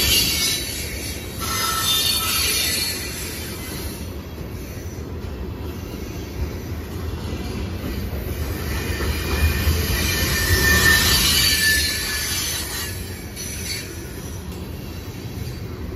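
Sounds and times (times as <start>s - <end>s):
high wheel squeal: 0.0s - 5.1s, 5.8s - 15.8s
train wheels rumbling on rails: 0.0s - 15.9s.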